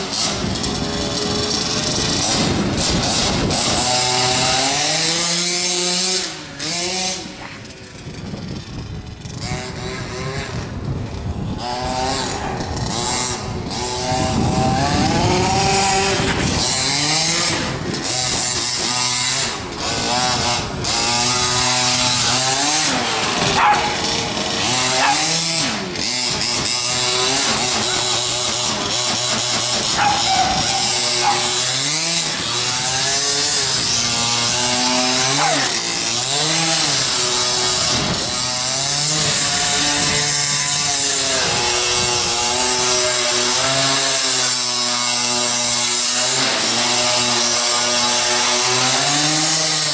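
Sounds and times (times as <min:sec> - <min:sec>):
small engine revving: 0:00.0 - 0:49.9.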